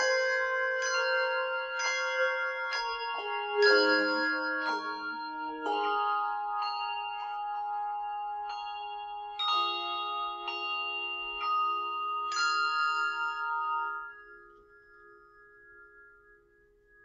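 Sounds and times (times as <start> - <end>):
handbell choir ringing chords: 0.0 - 17.0.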